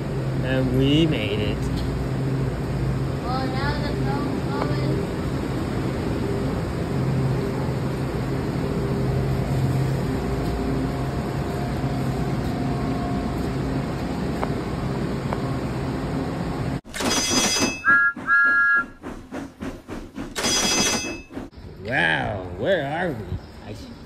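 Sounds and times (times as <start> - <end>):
train hum and rumble: 0.0 - 24.0.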